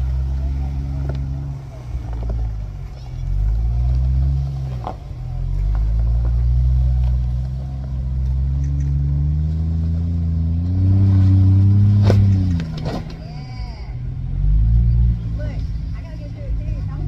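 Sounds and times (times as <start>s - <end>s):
off-road vehicle engine under load: 0.0s - 17.0s.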